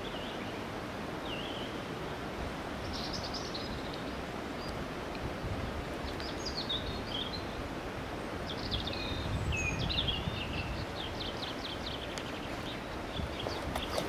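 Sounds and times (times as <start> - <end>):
outdoor background hiss: 0.0 - 14.0
songbirds chirping: 0.0 - 14.0.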